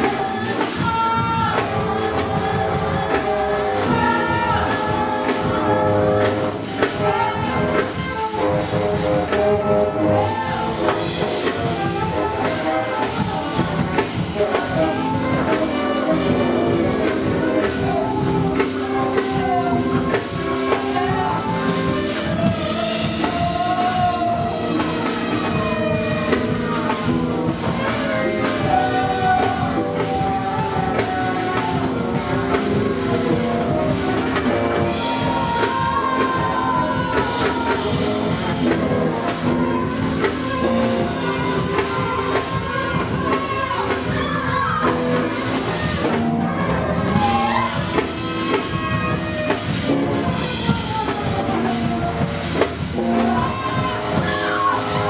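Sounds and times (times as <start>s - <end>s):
live jazz ensemble: 0.0s - 55.0s.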